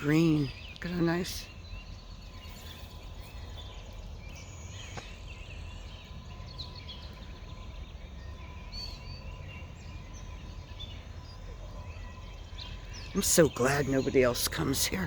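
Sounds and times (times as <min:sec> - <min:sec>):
low outdoor rumble: 0:00.0 - 0:15.0
songbirds chirping and singing: 0:00.0 - 0:15.0.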